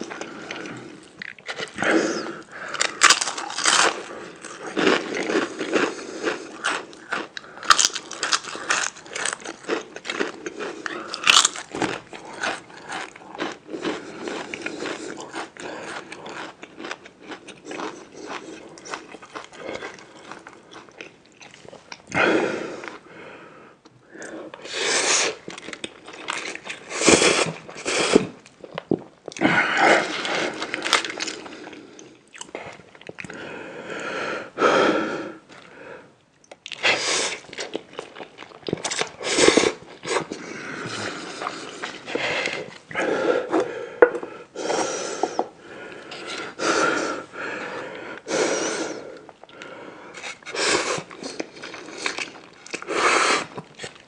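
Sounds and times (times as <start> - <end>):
chewing and crunching food: 0.0 - 23.1, 23.8 - 33.4, 36.4 - 44.2, 49.2 - 54.0.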